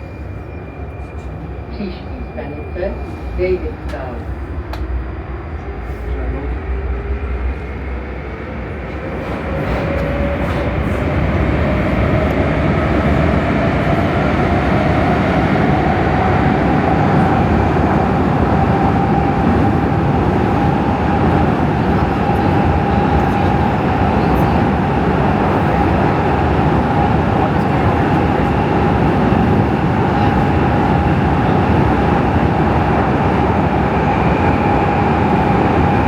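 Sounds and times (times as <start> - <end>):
train running rumble: 0.0 - 36.0.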